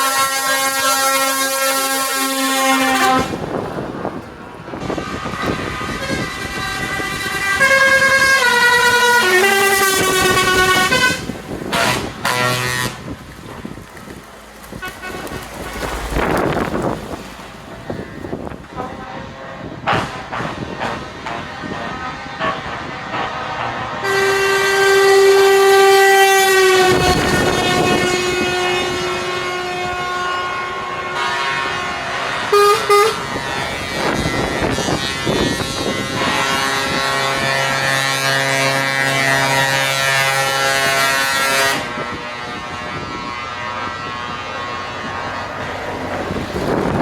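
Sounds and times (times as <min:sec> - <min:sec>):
truck air horn blasts: 0:00.0 - 0:13.9, 0:14.5 - 0:47.0.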